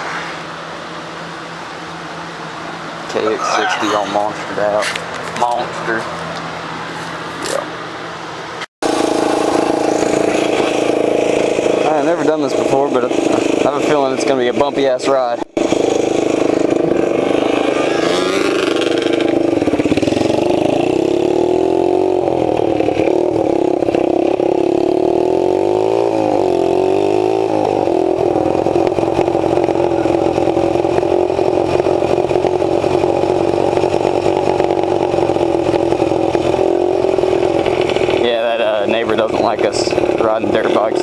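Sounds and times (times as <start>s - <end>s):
dirt bike engines revving: 2.7s - 7.8s, 8.8s - 41.0s.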